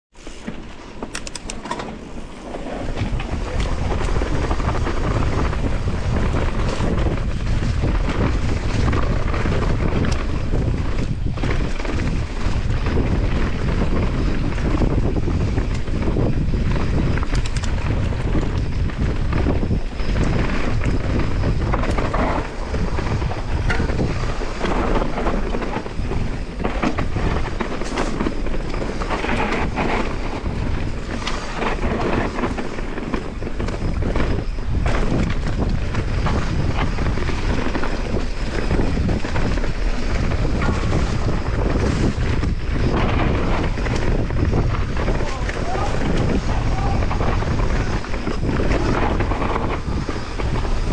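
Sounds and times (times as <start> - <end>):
bike knocking and rattling: 0.2 - 50.9
tyres rolling on dirt and leaves: 0.2 - 50.9
wind buffeting microphone: 0.5 - 50.9.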